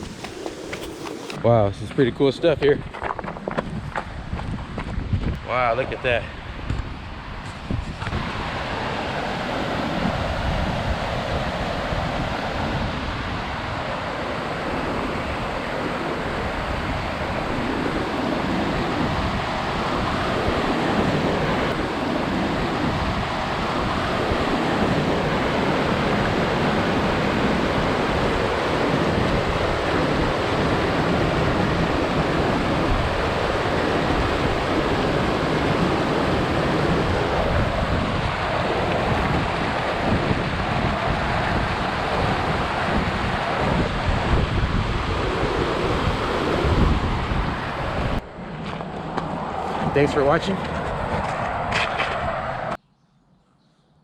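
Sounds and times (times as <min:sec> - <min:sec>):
wind buffeting microphone: 0:00.0 - 0:52.8.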